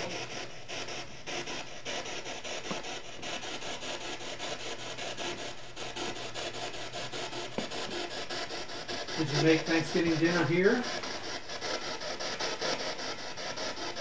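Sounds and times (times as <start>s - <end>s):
scratchy rasping pulses: 0.0s - 14.0s.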